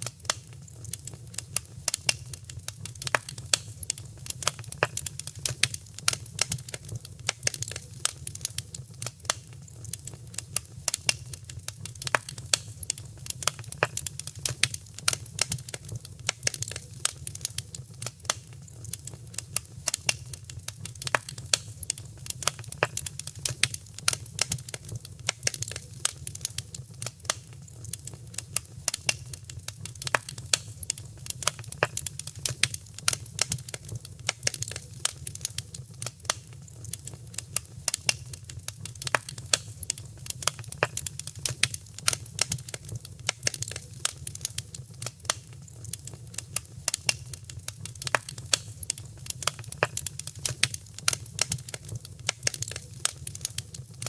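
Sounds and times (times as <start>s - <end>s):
fire crackling and popping: 0.0s - 54.0s
low rumble of fire: 0.0s - 54.0s.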